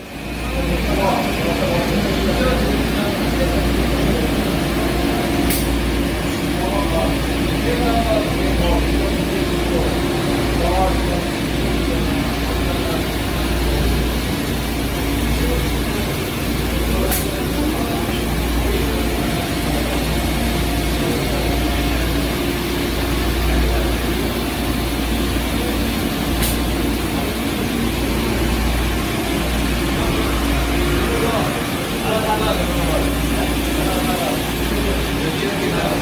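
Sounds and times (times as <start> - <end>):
lathe machining with coolant: 0.0 - 36.0.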